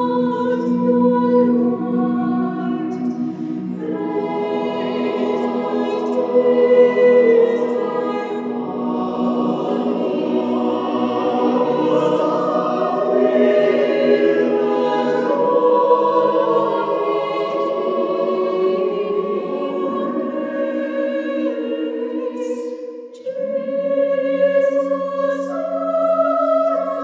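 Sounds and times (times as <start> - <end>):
mixed choir singing a cappella: 0.0 - 27.0.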